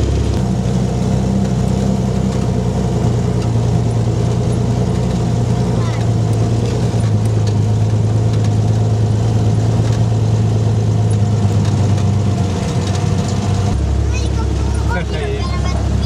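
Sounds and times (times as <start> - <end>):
engine running with low hum: 0.0 - 16.0.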